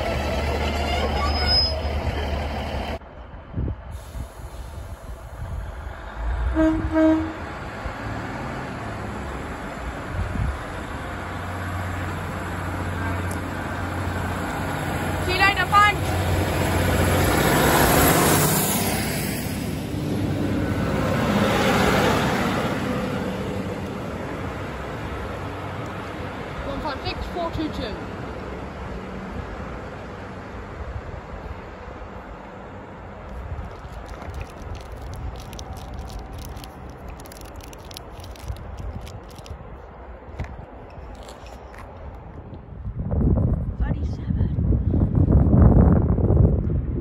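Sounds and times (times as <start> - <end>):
diesel train passing: 0.0 - 44.0.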